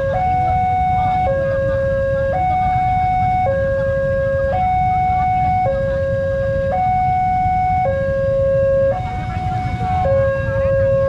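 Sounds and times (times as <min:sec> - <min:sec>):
two-tone crossing alarm: 0:00.0 - 0:11.0.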